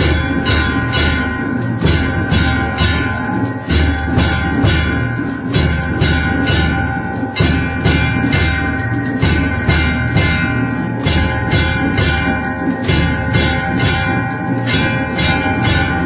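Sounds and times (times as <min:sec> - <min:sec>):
temple bells ringing: 0:00.0 - 0:16.0.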